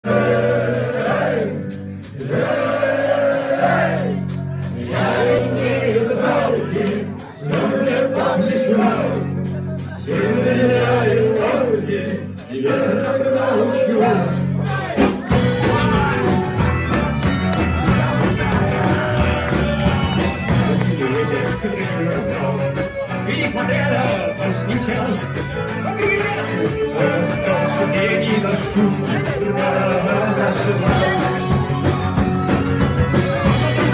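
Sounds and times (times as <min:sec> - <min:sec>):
instrumental accompaniment: 0:00.0 - 0:33.9
person singing: 0:02.2 - 0:09.4, 0:10.0 - 0:33.9.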